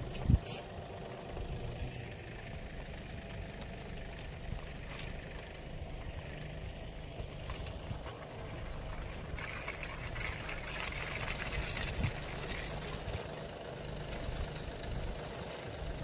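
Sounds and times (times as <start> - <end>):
car engine running: 0.0 - 16.0
tires slipping in snow hiss: 0.0 - 16.0.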